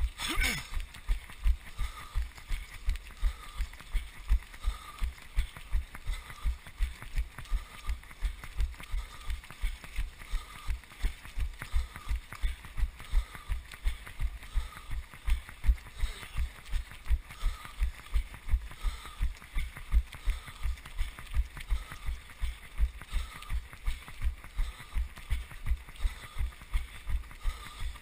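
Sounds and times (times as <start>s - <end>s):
pack of runners' footsteps: 0.0s - 28.0s.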